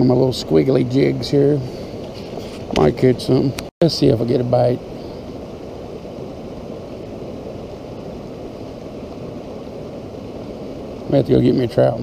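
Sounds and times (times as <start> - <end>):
river flowing over shallows: 0.0 - 12.0.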